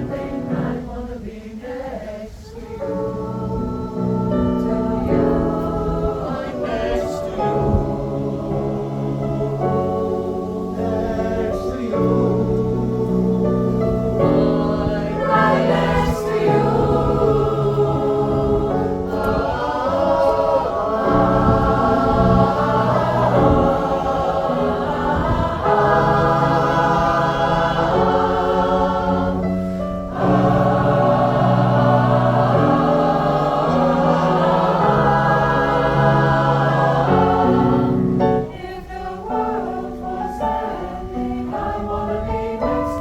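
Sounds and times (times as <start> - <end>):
choir singing held chords: 0.0 - 43.0.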